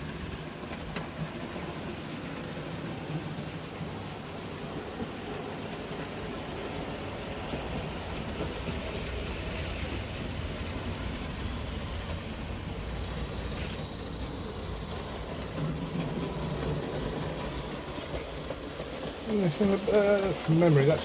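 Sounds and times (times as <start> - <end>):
model train wheels rumbling on track: 0.0 - 21.0.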